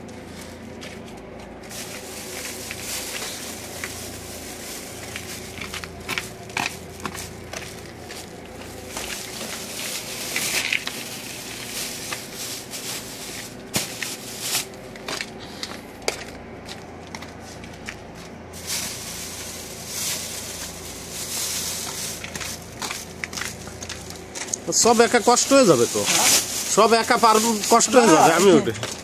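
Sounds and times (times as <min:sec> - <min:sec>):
steady low hum: 0:00.0 - 0:29.0
plastic sacks rustling: 0:00.2 - 0:16.3, 0:16.9 - 0:29.0.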